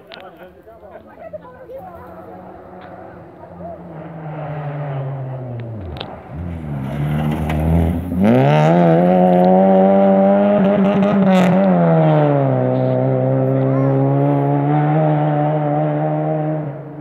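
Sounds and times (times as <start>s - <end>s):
rally car engine revving: 1.7s - 17.0s.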